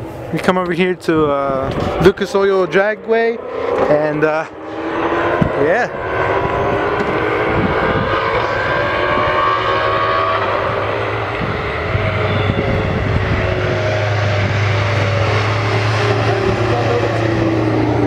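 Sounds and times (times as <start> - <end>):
higher engine notes falling: 0.0 - 18.0
low engine rumble: 0.0 - 18.0.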